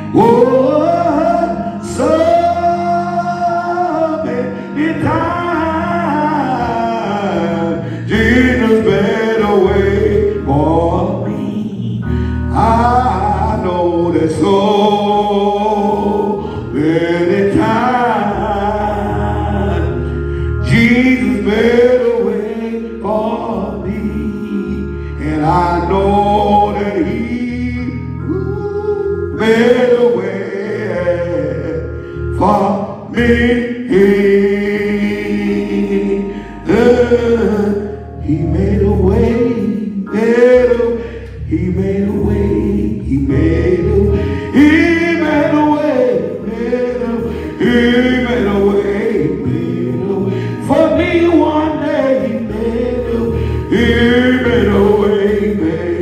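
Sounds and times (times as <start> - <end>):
man singing gospel song: 0.0 - 56.0.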